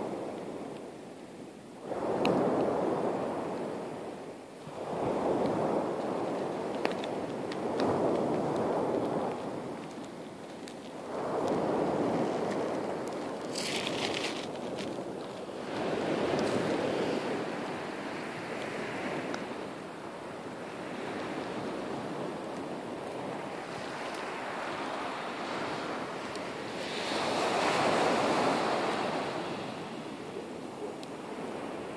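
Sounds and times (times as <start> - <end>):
sea waves washing ashore: 0.0 - 31.9.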